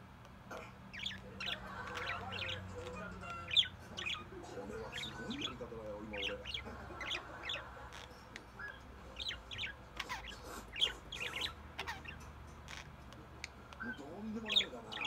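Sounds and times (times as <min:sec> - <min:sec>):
budgerigars chirping: 0:00.5 - 0:15.0.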